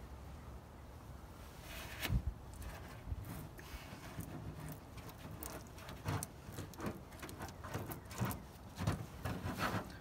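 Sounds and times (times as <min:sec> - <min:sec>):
toothbrush scraping metal hull: 0:01.8 - 0:10.0.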